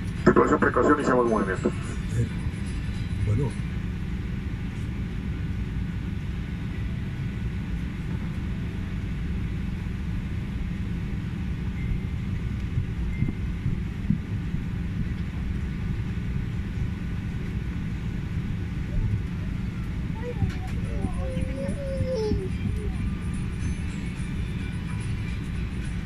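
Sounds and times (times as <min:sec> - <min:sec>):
airliner cabin rumble: 0:00.0 - 0:26.0
faint steady whine: 0:00.0 - 0:26.0.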